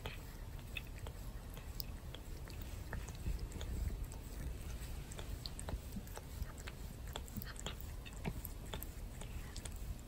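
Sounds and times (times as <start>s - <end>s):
cat tongue rasping through hair: 0.0s - 10.0s
steady low rumble: 0.0s - 10.0s.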